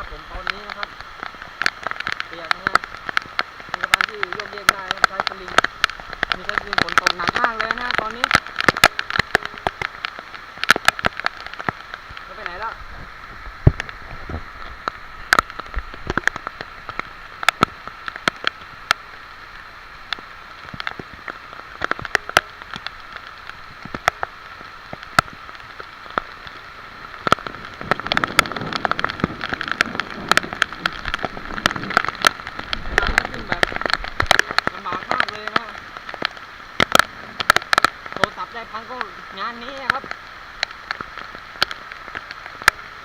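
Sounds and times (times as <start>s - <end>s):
heavy rain hissing: 0.0s - 43.0s
large raindrops tapping: 0.0s - 43.0s.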